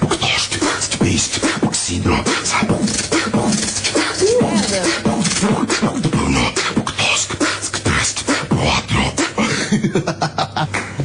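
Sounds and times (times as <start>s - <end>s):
beatboxing: 0.0s - 11.0s.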